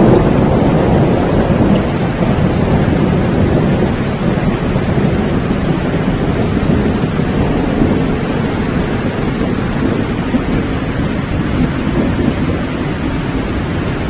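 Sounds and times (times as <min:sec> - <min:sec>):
low rumble of thunder: 0:00.0 - 0:14.0
steady rain: 0:00.0 - 0:14.0.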